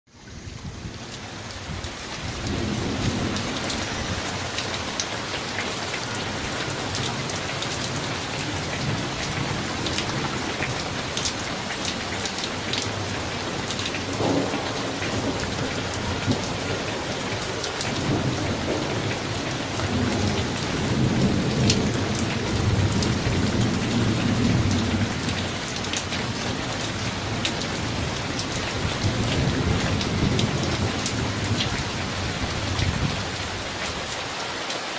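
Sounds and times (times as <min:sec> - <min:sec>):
heavy rain with drips: 0:00.1 - 0:34.9
low rolling thunder: 0:00.3 - 0:34.1.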